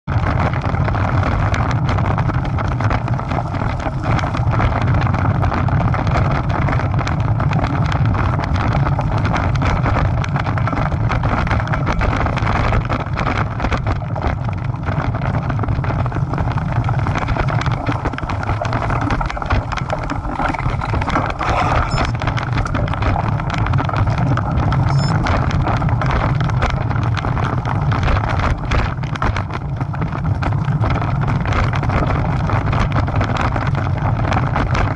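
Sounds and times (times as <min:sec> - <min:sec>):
bike rattles and clicks: 0:00.0 - 0:34.9
low rumble: 0:00.0 - 0:34.9
wind buffeting microphone: 0:00.1 - 0:34.9.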